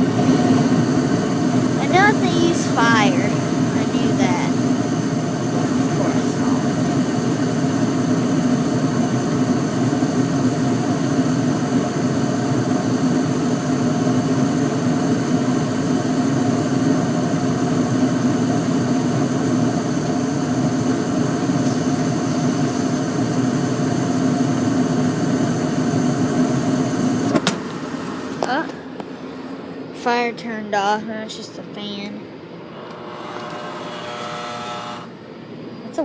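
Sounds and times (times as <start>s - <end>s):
gas furnace humming: 0.0s - 36.0s.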